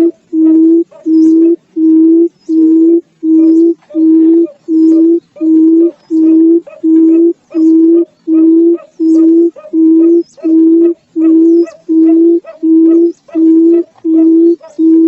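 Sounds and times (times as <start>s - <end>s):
bird giving low hoots: 0.0s - 15.0s.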